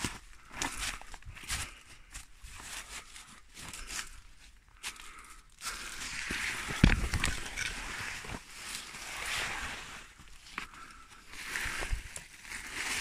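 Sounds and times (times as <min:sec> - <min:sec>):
branches brushing and rustling: 0:00.0 - 0:13.0.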